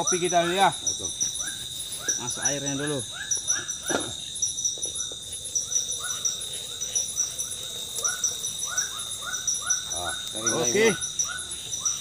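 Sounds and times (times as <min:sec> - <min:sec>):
animal arching calls: 0:00.0 - 0:12.0
insects whining and chirping: 0:00.0 - 0:12.0.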